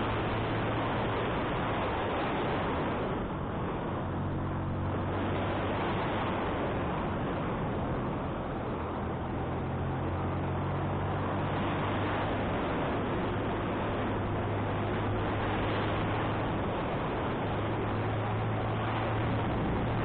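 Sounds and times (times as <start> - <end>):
motorcycle engine humming: 0.0 - 20.0
wind rushing over microphone: 0.0 - 20.0.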